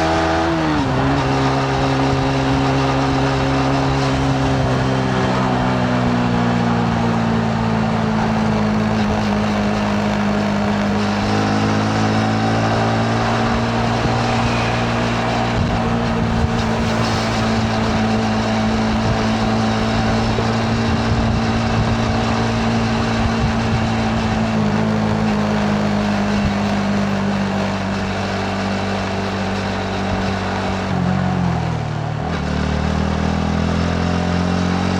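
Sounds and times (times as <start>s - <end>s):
motorcycle engine cruising: 0.0s - 34.9s
wind and road noise: 0.0s - 34.9s.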